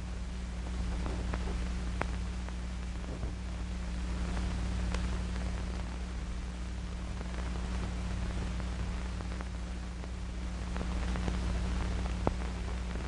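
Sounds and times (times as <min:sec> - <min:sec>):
film hiss: 0:00.0 - 0:13.0
low steady hum: 0:00.0 - 0:13.0
crackling ticks: 0:00.6 - 0:06.0, 0:07.1 - 0:13.0.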